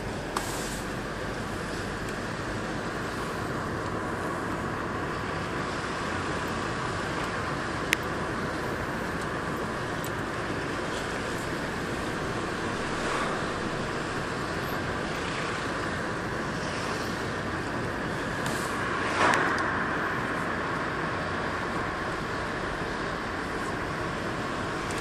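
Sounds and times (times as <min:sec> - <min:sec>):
road and engine noise in car: 0:00.0 - 0:25.0.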